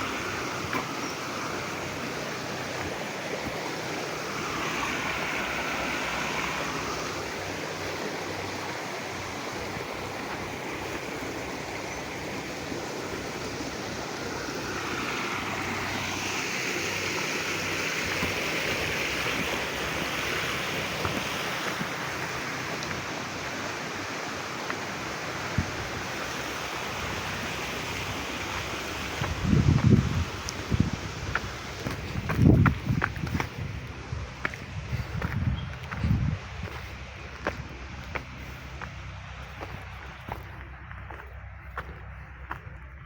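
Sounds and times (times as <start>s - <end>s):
river water flowing: 0.0s - 43.0s.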